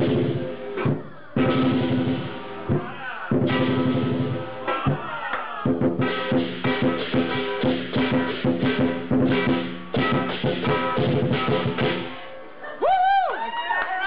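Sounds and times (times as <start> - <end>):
drum beaten fast: 0.0 - 12.2
cymbals ringing: 0.0 - 12.7.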